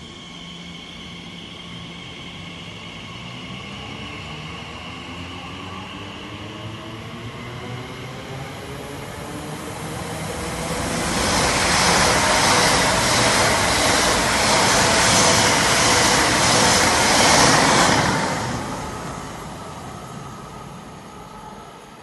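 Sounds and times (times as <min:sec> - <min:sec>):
train rushing past: 0:00.0 - 0:22.0.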